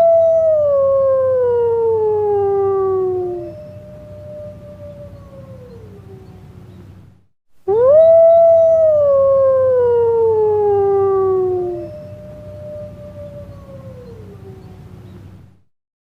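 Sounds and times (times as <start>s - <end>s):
dog howling: 0.0s - 6.2s, 7.7s - 14.7s.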